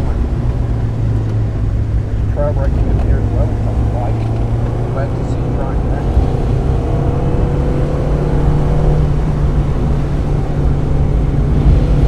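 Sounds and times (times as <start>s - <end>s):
car engine under load: 0.0s - 12.0s.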